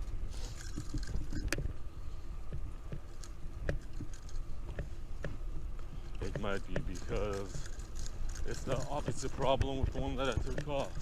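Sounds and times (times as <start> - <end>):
wind and road noise: 0.0 - 11.0
sharp clicks and knocks: 0.6 - 1.8, 2.4 - 11.0.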